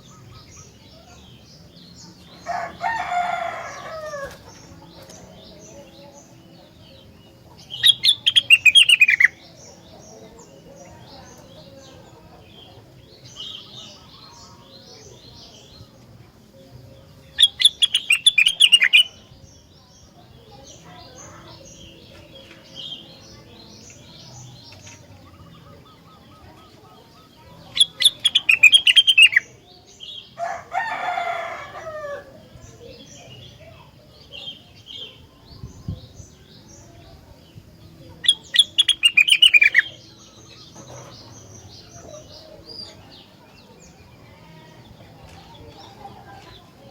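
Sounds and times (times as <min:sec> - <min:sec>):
songbird rapid high chattering: 0:00.0 - 0:16.0, 0:17.0 - 0:30.3, 0:32.7 - 0:43.9
soft bird chirping: 0:00.0 - 0:32.0, 0:32.6 - 0:46.9.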